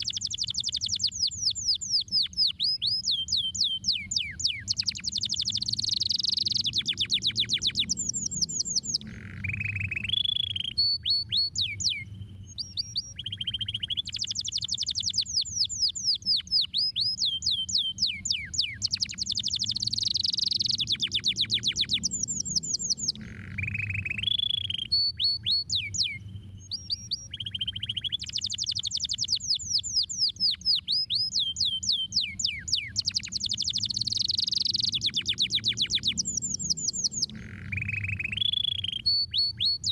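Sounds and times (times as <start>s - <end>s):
canary singing trills: 0.0s - 39.9s
steady low hum: 0.0s - 39.9s.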